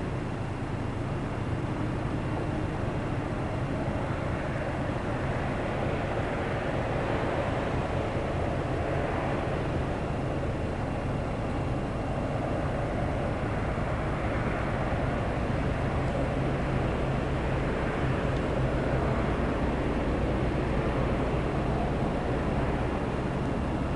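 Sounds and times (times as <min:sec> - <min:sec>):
freight train rumbling: 0:00.0 - 0:23.9.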